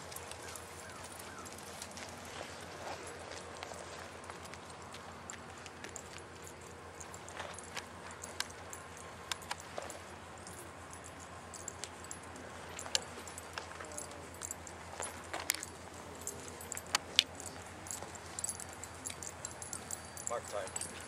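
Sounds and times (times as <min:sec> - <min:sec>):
footsteps on pavement: 0:00.0 - 0:21.0
gear clinking: 0:00.0 - 0:21.0.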